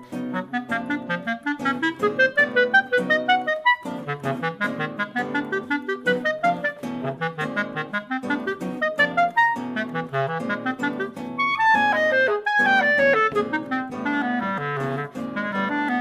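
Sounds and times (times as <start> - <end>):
clarinet melody: 0.0 - 16.0
plucked guitar: 0.0 - 16.0.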